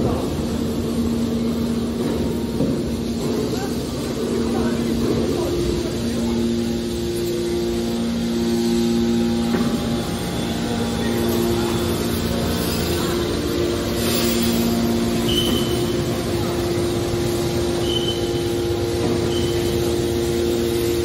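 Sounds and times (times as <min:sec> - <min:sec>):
constant machine whine: 0:00.0 - 0:21.0
electric pump motor hum: 0:00.0 - 0:21.0.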